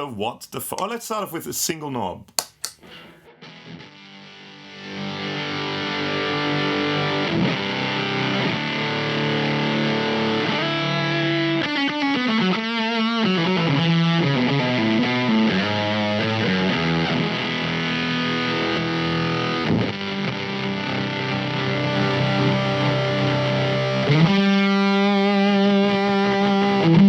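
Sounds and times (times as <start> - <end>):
heavily distorted electric guitar: 4.8 - 27.0.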